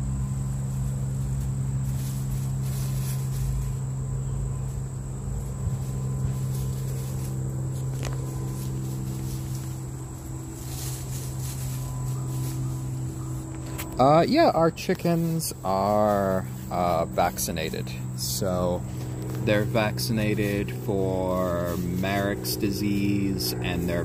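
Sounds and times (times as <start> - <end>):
chickens scratching dry leaves: 0.0 - 24.0
faint insect chirring: 0.0 - 24.0
low hum: 0.0 - 24.0.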